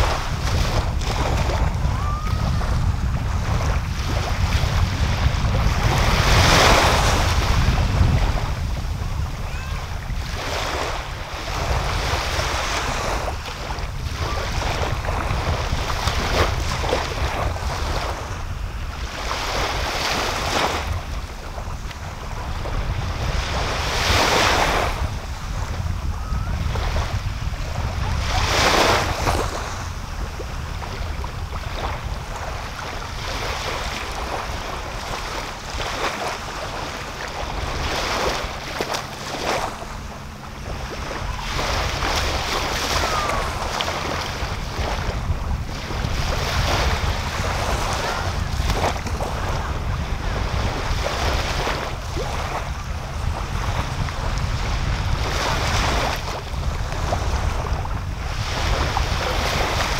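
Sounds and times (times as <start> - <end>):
small waves breaking on beach: 0.0 - 59.9
wind buffeting microphone: 0.0 - 59.9.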